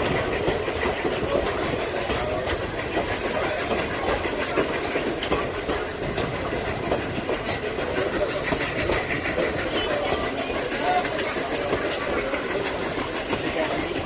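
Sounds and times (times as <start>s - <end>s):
steam locomotive exhaust chuffing: 0.0s - 14.0s
train wheels clattering on rails: 0.0s - 14.0s.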